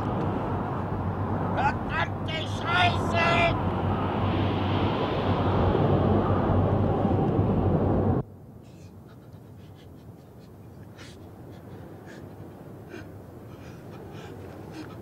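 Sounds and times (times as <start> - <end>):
loud blizzard wind: 0.0 - 15.0.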